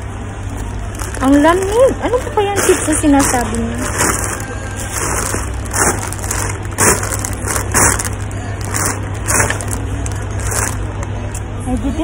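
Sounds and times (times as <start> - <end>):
steady low hum: 0.0 - 12.0
plastic snack packets crinkling: 0.4 - 11.1.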